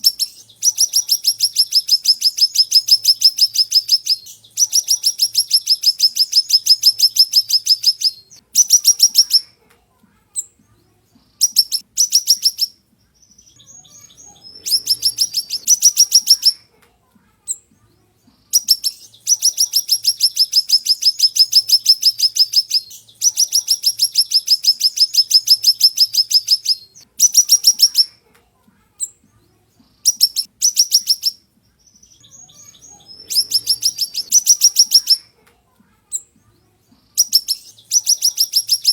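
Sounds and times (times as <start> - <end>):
bird singing high rapid trills: 0.0 - 9.5, 11.4 - 16.6, 18.5 - 28.1, 30.1 - 35.2, 37.2 - 38.9
soft bird chirps: 0.0 - 35.4, 36.0 - 38.9.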